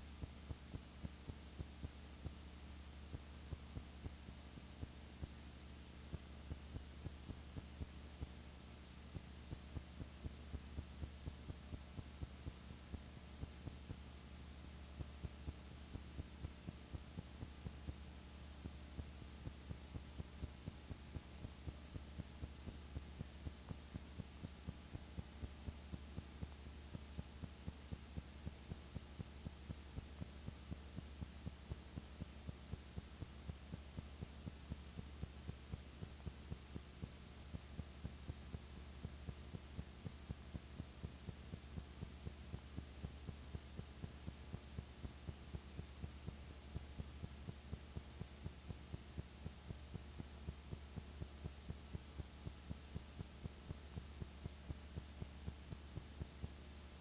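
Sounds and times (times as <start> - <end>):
throbbing electrical hum: 0.0 - 57.0.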